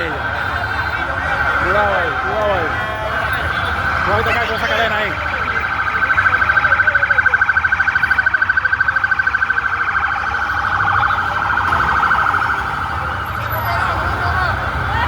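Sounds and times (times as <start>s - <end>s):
electronic siren: 0.0s - 14.1s.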